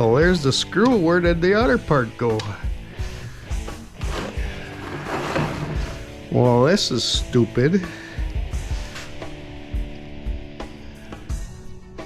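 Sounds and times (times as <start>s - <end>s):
background guitar music: 0.0s - 12.0s.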